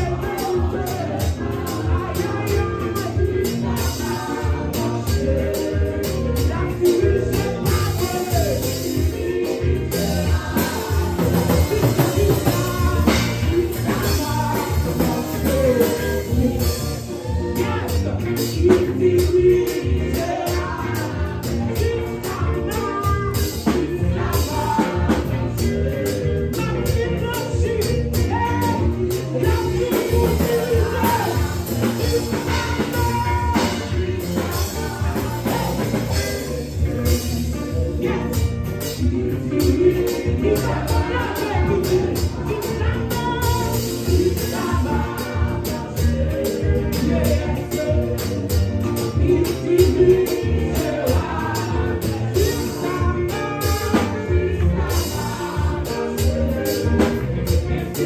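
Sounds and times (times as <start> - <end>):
instrumental backing with beat: 0.0 - 58.0
women singing: 0.0 - 58.0.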